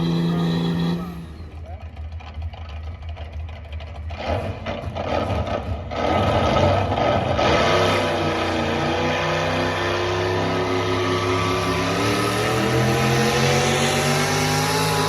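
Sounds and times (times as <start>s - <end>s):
pulling vehicle engine under load: 0.0s - 15.0s.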